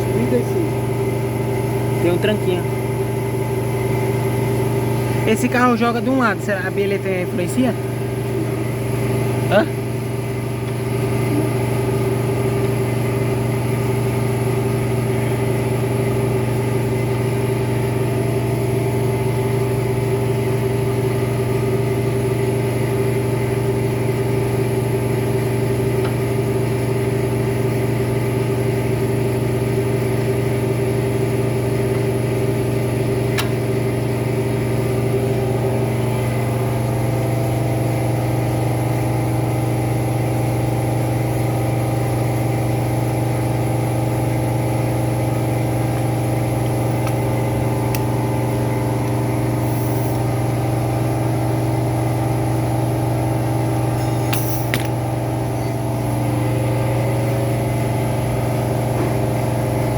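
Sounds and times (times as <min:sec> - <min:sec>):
motor humming: 0:00.0 - 0:59.9.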